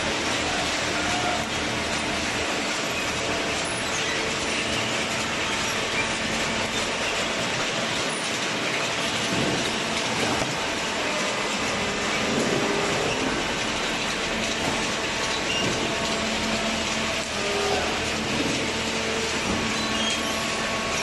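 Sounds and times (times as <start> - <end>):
machinery clattering: 0.0 - 21.0.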